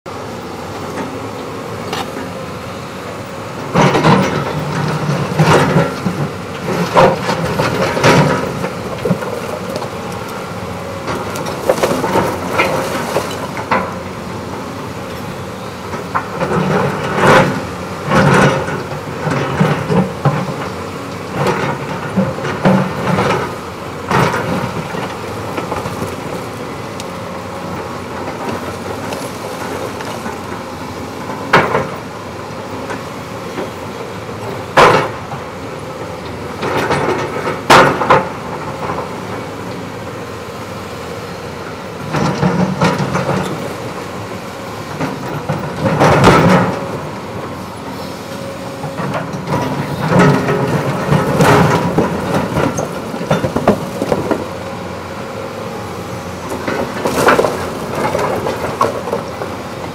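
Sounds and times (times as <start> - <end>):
excavator diesel engine running: 0.1 - 59.9.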